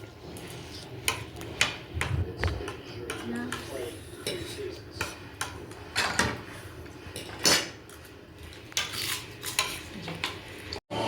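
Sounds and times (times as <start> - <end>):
cutlery clinking against a plate: 1.0 - 6.5, 7.1 - 10.8.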